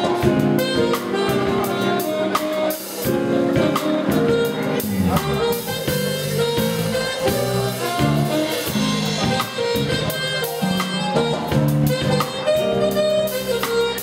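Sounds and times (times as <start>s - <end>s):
bass: 0.0s - 14.0s
drum kit: 0.0s - 14.0s
saxophone melody: 0.0s - 14.0s.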